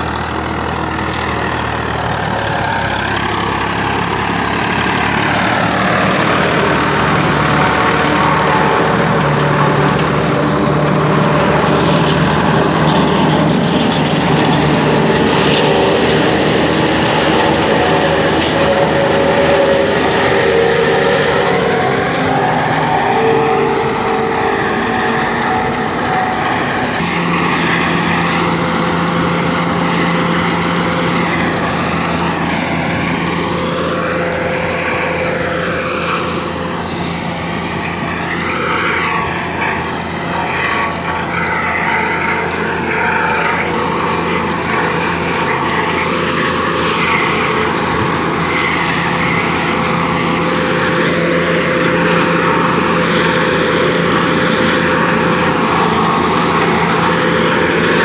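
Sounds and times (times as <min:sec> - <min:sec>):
tractor engine driving mulcher: 0:00.0 - 0:58.0.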